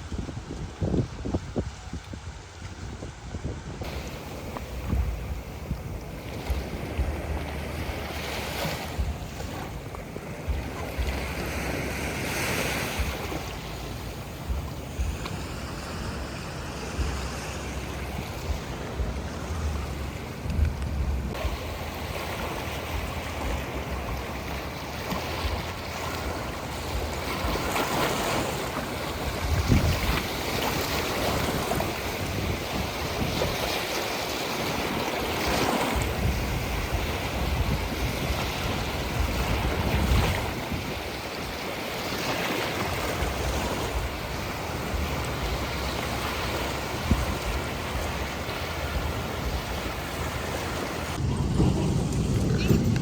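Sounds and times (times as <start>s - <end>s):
sea waves washing ashore: 0.0s - 53.0s
wind buffeting microphone: 0.0s - 53.0s.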